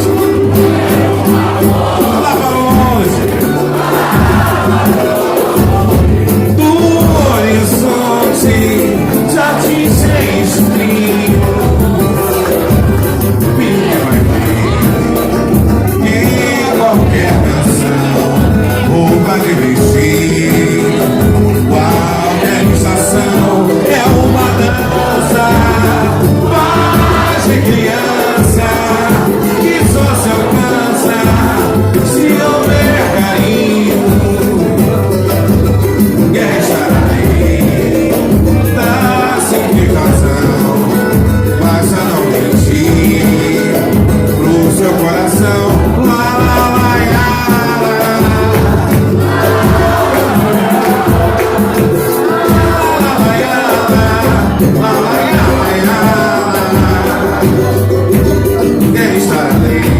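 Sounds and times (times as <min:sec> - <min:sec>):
live band music: 0:00.0 - 0:59.9
voices singing: 0:00.0 - 0:59.9.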